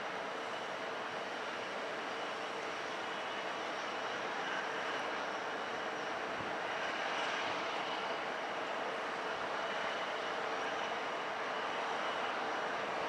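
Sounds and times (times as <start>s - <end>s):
airliner engines running: 0.0s - 13.0s.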